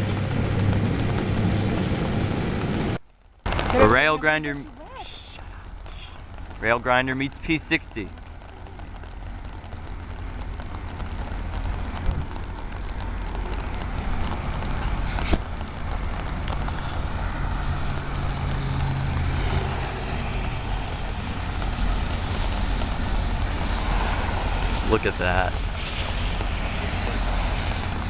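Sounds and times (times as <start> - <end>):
heavy engine rumble: 0.0 - 28.0.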